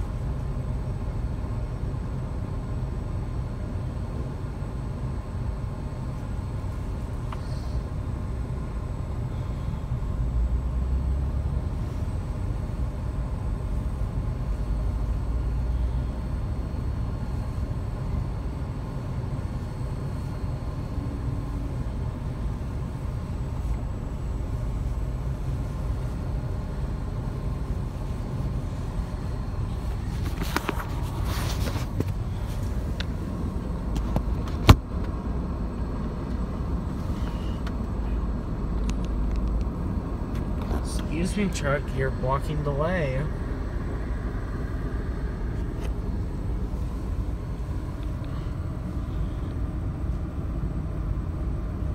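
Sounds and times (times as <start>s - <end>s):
idling truck and car engines: 0.0s - 51.9s.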